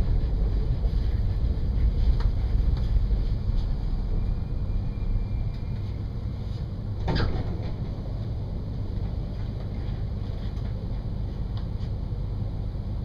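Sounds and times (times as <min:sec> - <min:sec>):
diesel train rumble: 0:00.0 - 0:13.0.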